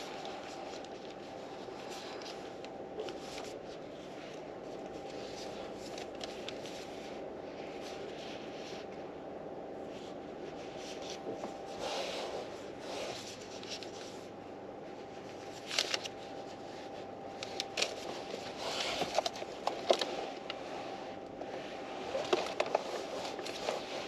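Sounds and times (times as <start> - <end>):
soft rustling and handling: 0.0 - 24.0
steady low hum: 0.0 - 24.0.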